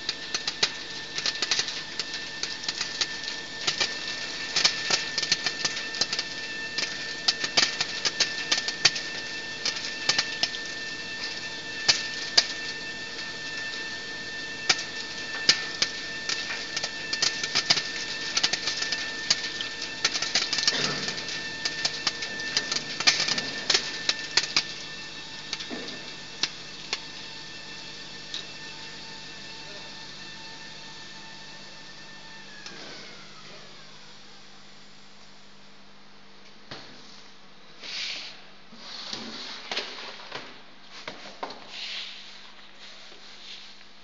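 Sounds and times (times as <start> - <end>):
machine hum with high whine: 0.0 - 44.0.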